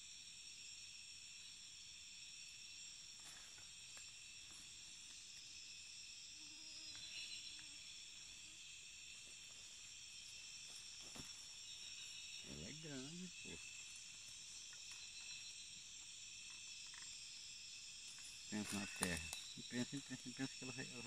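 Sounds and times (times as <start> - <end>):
insects trilling: 0.0 - 21.0
faint ticks and rustles: 2.8 - 21.0.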